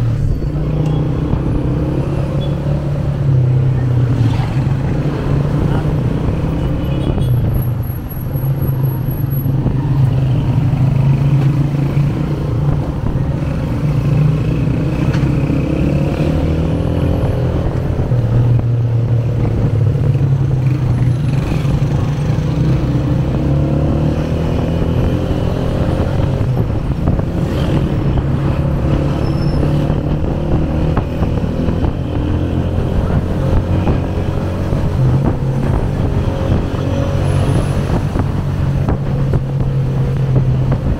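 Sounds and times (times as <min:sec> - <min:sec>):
road and traffic noise: 0:00.0 - 0:40.9.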